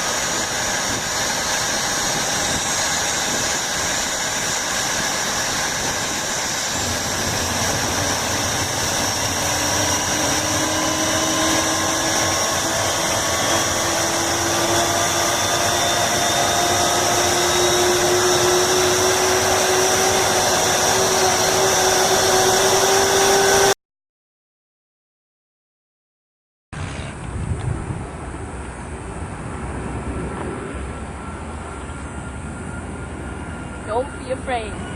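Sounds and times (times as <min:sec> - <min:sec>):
jet engine spooling up: 0:00.0 - 0:23.8, 0:26.8 - 0:34.9.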